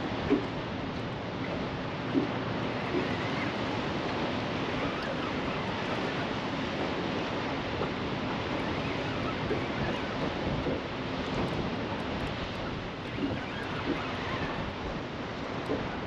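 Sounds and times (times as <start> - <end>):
river water rushing: 0.0 - 15.8
wind buffeting microphone: 0.0 - 16.0.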